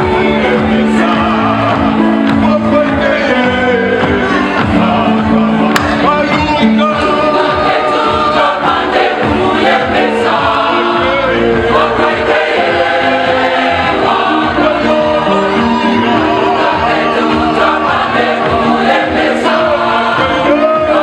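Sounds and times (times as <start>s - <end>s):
choir singing a gospel hymn: 0.0s - 21.0s.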